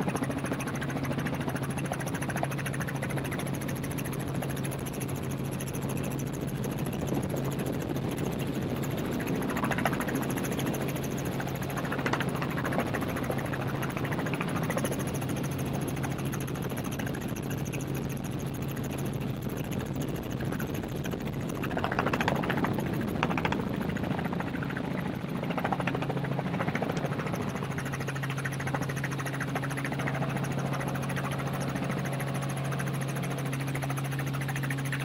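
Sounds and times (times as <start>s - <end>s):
helicopter drone: 0.0s - 35.0s.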